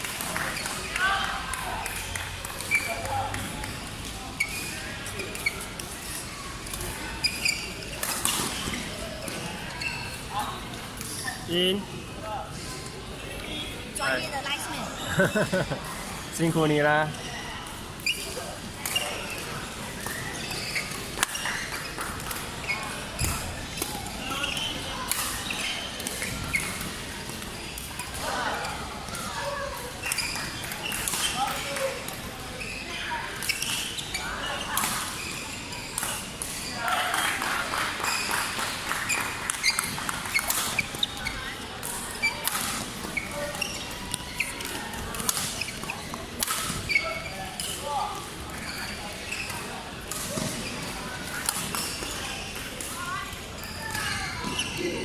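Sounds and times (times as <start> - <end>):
shoes squeaking on floor: 0.2 - 12.7, 13.5 - 36.9, 38.0 - 55.0.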